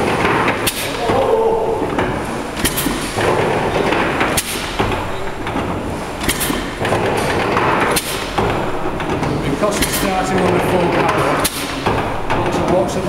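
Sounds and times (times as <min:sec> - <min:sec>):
steam hiss and knock: 0:01.9 - 0:12.8.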